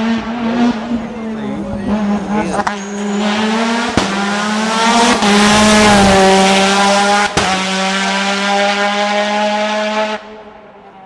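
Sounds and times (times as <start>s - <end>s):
race car engine at high revs: 0.0s - 10.8s.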